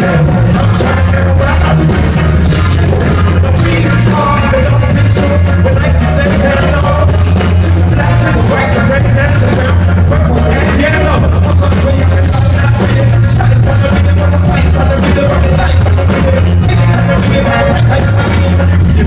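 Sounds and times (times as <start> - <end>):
drum beat: 0.0 - 19.0
heavy bass line: 0.0 - 19.0
live band playing: 0.0 - 19.0
vocal or lead line: 0.0 - 19.0.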